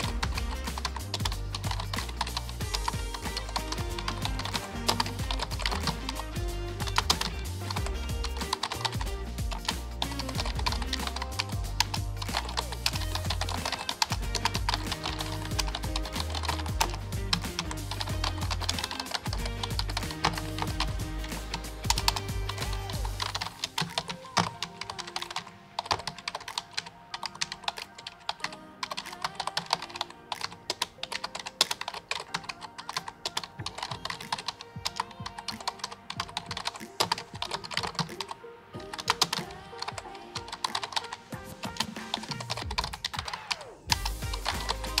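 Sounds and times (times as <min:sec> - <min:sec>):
background music: 0:00.0 - 0:45.0
laptop keyboard typing: 0:00.0 - 0:45.0.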